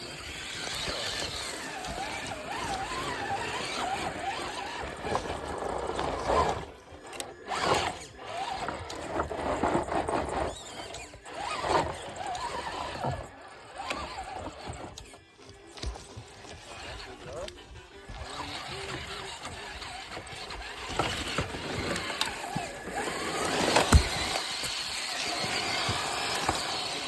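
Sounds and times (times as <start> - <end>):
rc car motor whining: 0.0 - 27.0.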